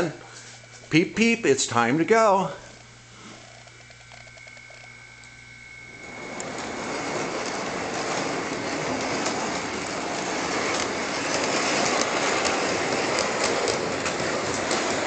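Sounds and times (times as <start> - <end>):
model train rolling on track: 0.8 - 15.0.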